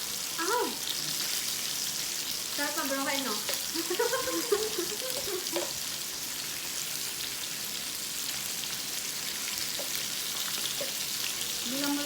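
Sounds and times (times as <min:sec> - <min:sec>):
beef sizzling on a grill: 0:00.0 - 0:12.0.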